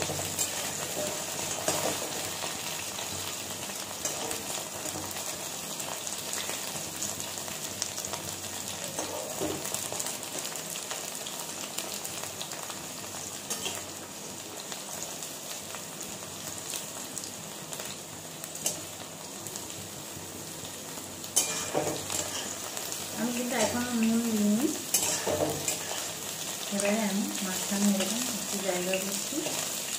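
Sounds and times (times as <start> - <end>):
okra sizzling in oil: 0.0 - 29.9.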